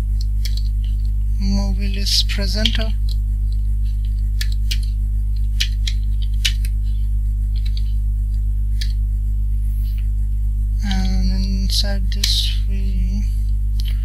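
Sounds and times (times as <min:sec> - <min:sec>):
loud steady low hum: 0:00.0 - 0:14.0.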